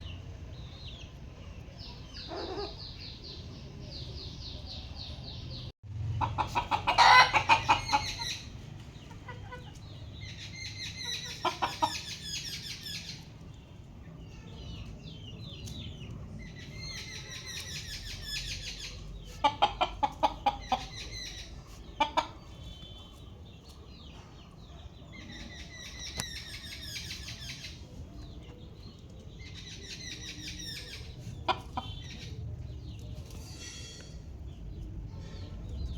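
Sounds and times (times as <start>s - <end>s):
chickens clucking: 0.5s - 13.7s, 14.8s - 35.9s.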